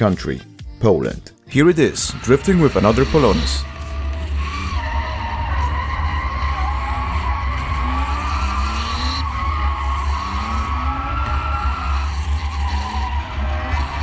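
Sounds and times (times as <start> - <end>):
car engines revving: 1.5 - 14.0
tyres squealing: 1.5 - 14.0.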